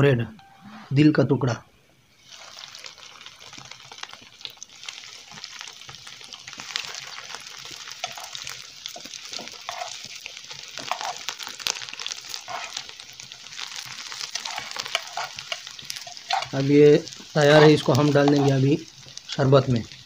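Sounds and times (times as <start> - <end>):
bread frying in hot oil: 2.2 - 20.0.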